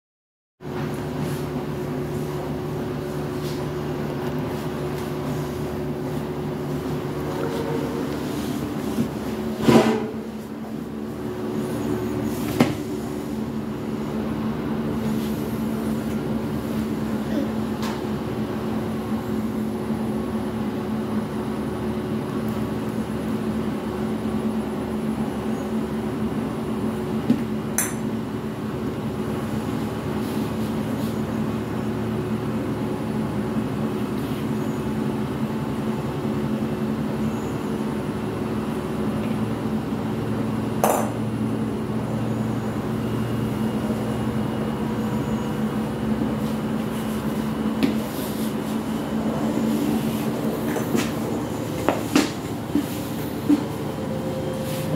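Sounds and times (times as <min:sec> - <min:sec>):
low mechanical hum: 0:00.6 - 0:54.9.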